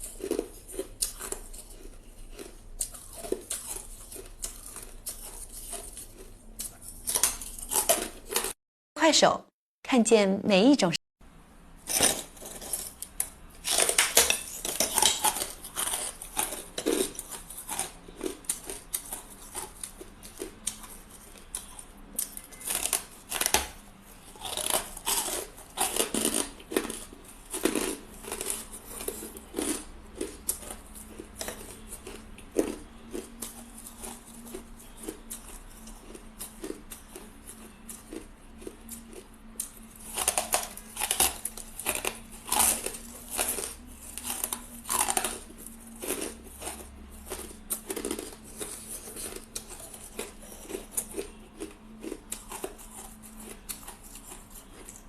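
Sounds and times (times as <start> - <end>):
ice being chewed: 0.0 - 8.6, 11.9 - 55.0.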